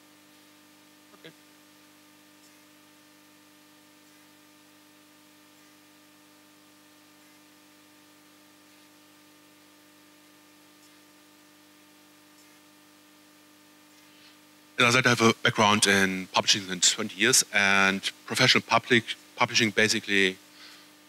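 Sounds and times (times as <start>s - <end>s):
faint steady hiss: 0.0s - 21.0s
low electrical hum: 0.0s - 21.0s.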